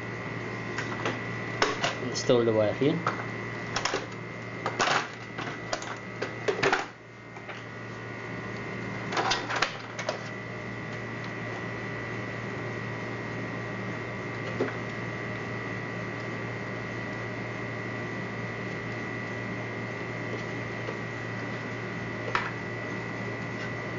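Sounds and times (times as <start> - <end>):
steady electrical hum: 0.0 - 23.9.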